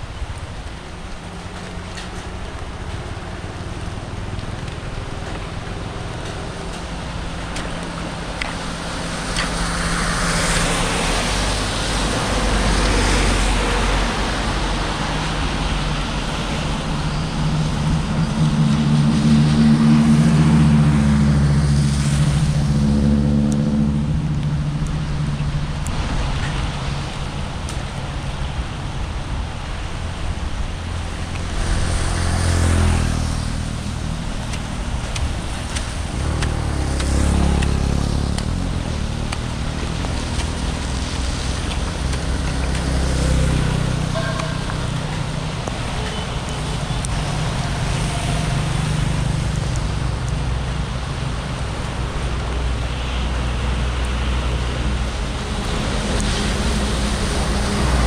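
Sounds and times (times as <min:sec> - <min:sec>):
steady rush of noise: 0:00.0 - 0:58.0.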